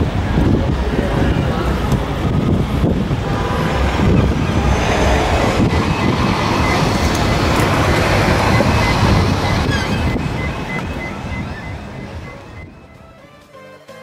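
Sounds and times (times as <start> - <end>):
wind buffeting microphone: 0.0 - 13.0
crowd noise: 0.0 - 14.0
traffic noise: 0.0 - 14.0.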